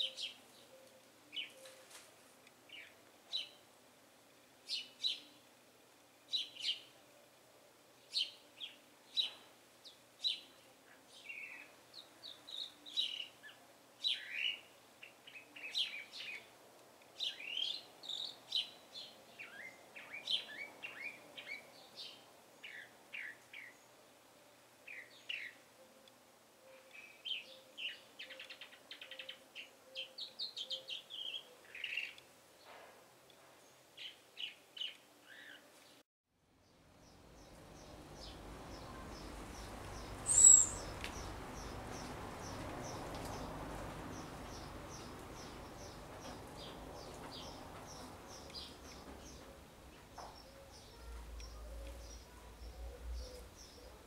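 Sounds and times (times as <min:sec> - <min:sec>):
songbirds chirping and trilling: 0:00.0 - 0:36.0, 0:36.6 - 0:54.0.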